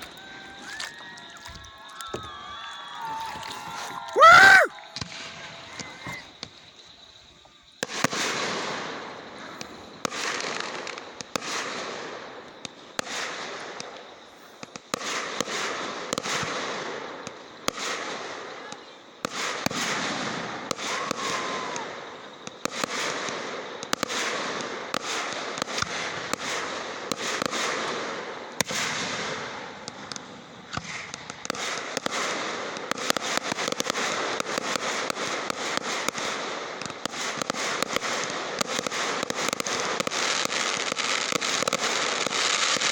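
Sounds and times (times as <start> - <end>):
fireworks crackling: 0.0 - 42.9.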